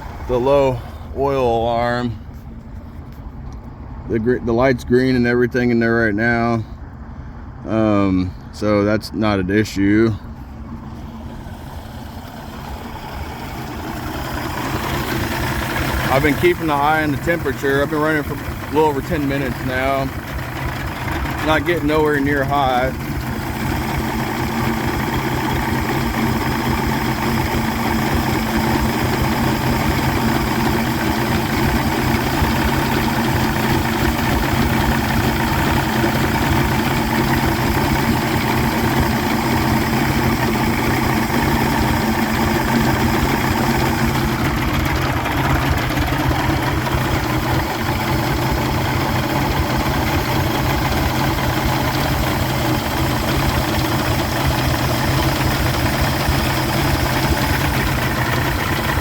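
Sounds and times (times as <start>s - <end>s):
outboard motor idling: 0.0s - 8.5s, 9.6s - 59.0s.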